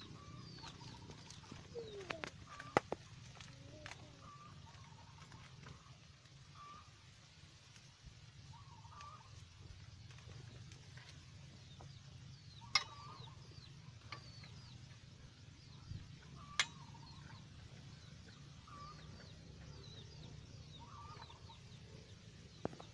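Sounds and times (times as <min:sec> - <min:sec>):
small birds chirping: 0:00.0 - 0:22.9
steady low hum: 0:00.0 - 0:22.9.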